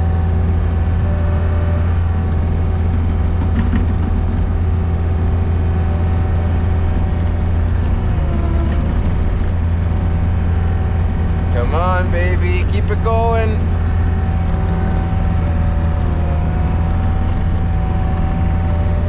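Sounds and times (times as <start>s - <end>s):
diesel engine under heavy load: 0.0s - 19.0s.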